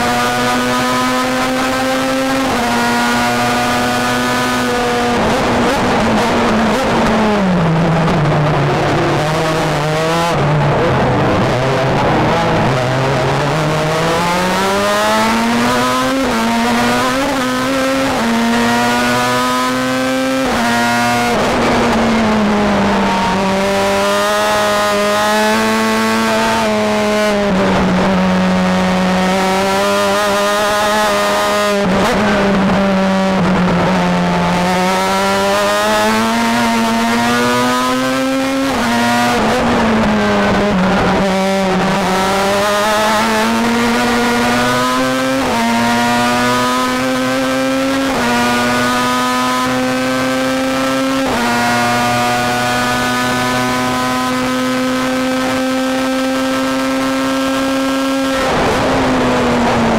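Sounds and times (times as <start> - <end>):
racing car engine revving: 0.0 - 59.9.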